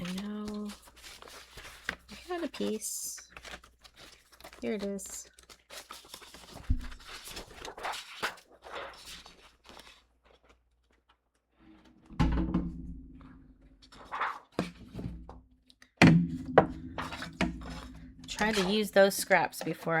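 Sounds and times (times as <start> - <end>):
paper rustling and crinkling: 0.0 - 11.9, 13.8 - 15.2, 17.0 - 20.0.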